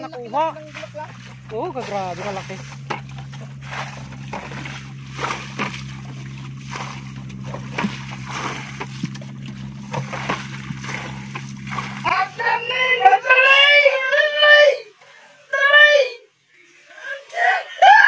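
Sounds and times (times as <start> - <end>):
water splashing and sloshing: 0.0 - 15.4
steady low hum: 0.0 - 15.6.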